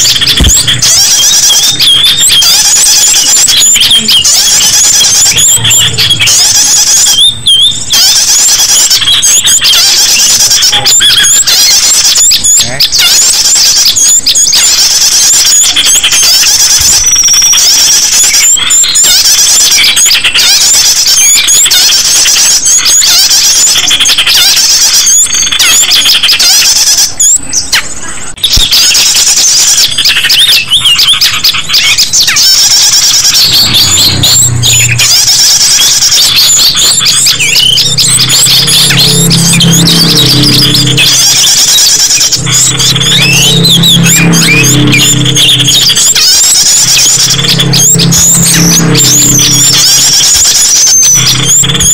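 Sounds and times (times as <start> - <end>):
small birds chirping shrilly: 0.0 - 51.9.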